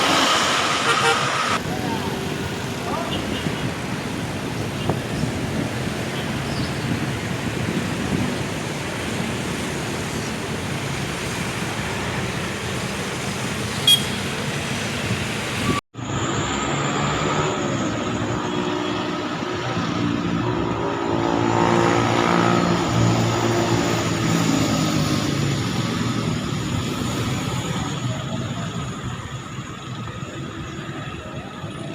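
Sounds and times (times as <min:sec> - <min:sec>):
road traffic passing: 0:00.0 - 0:31.9
vehicle engines nearby: 0:00.0 - 0:31.9.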